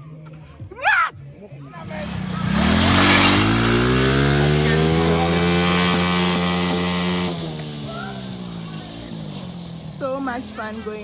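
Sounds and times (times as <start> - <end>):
vehicle engine revving: 1.7 - 11.0.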